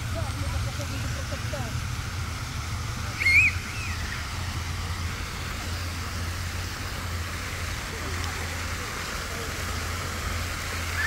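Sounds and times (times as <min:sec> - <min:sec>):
fountain water splashing: 0:00.0 - 0:11.0
low steady rumble: 0:00.0 - 0:11.0.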